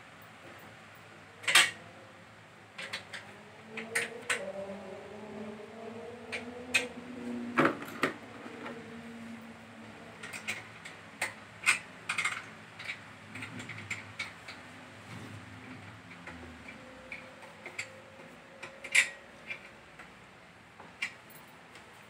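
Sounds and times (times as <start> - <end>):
faint drifting hum: 0.0 - 22.0.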